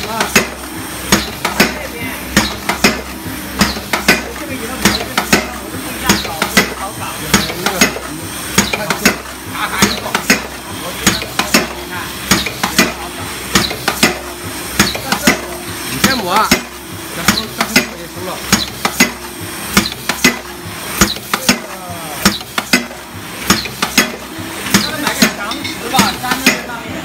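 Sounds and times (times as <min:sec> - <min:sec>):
press stamping metallic knocks: 0:00.0 - 0:26.7
machine hum: 0:00.0 - 0:27.0.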